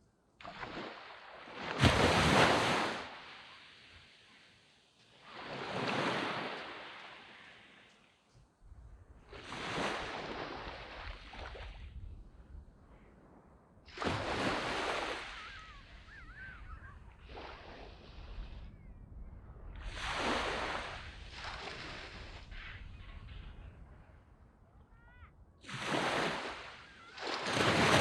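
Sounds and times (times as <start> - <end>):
waves breaking on sandy beach: 0.4 - 8.3, 9.2 - 13.1, 13.8 - 28.0.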